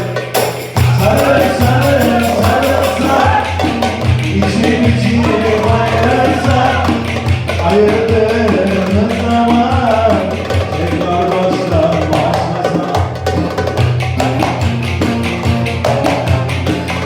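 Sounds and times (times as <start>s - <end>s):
pop-folk music with percussion: 0.0s - 17.0s.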